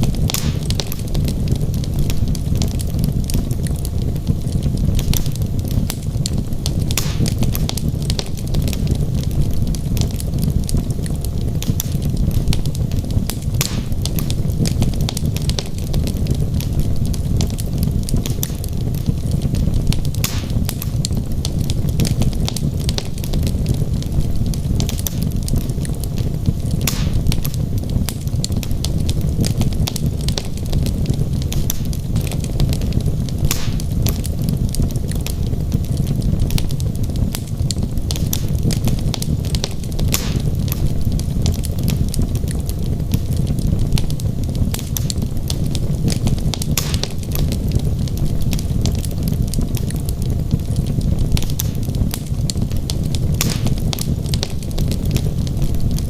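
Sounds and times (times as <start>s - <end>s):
wood logs burning with crackles: 0.0s - 56.0s.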